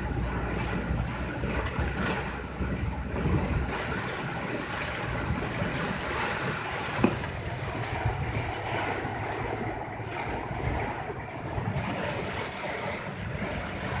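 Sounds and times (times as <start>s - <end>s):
rushing water: 0.0s - 14.0s
wind buffeting microphone: 0.0s - 14.0s.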